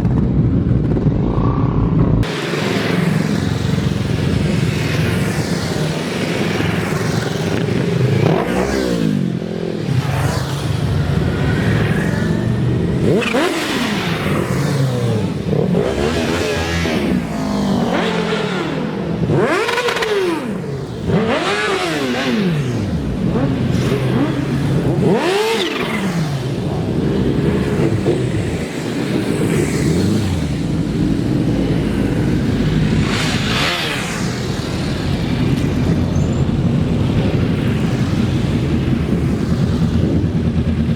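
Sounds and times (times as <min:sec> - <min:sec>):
motorcycle engines revving and passing: 0:00.0 - 0:40.9
road noise: 0:00.0 - 0:40.9.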